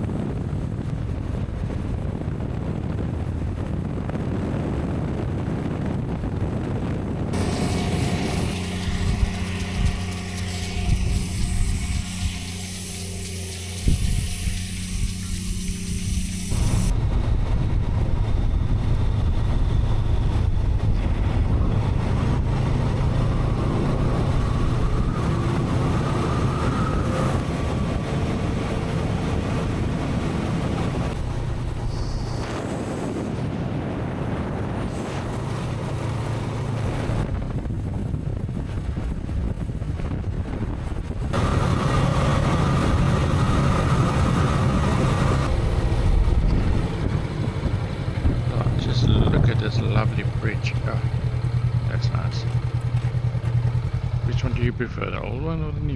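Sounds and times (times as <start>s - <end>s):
wind noise on microphone: 0.0s - 54.6s
motorcycle engine running: 7.3s - 33.0s, 34.6s - 55.9s.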